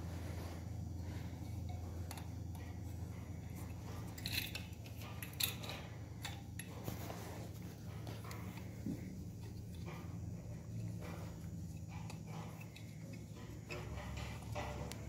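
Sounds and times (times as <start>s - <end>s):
steady low hum: 0.0s - 15.0s
light metallic clicks and scrapes: 0.1s - 15.0s.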